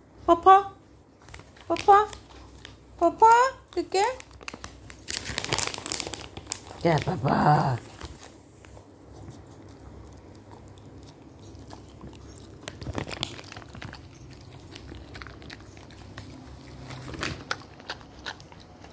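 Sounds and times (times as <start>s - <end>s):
dog crunching a treat: 1.2s - 18.9s.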